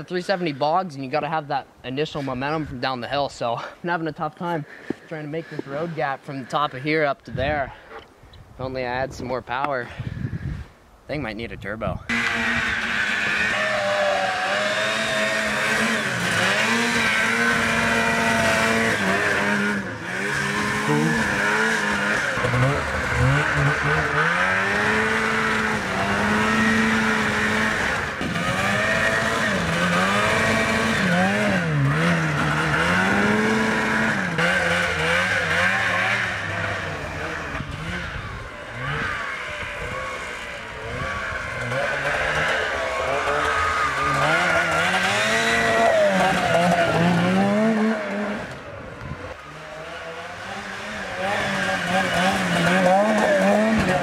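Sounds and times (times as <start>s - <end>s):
snowmobile engine revving: 0.0s - 8.0s, 12.1s - 54.0s.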